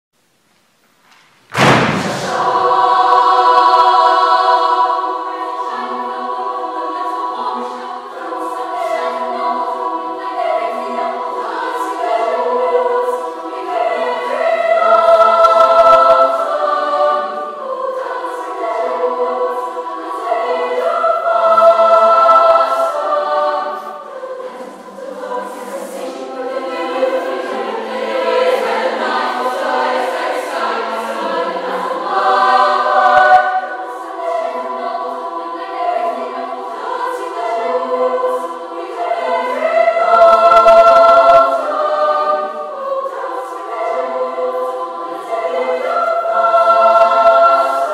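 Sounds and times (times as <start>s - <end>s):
school choir singing: 1.5s - 47.9s.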